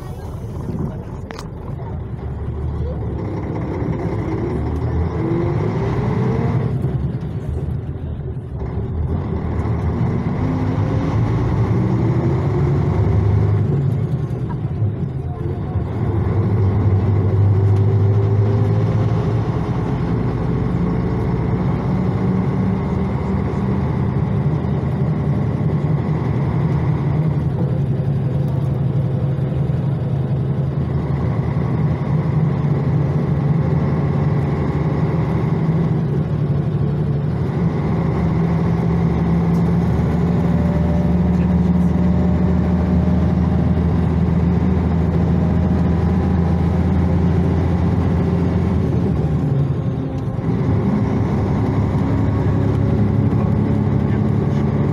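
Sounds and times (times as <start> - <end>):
coach diesel engine running: 0.0 - 54.9
road noise: 0.0 - 54.9.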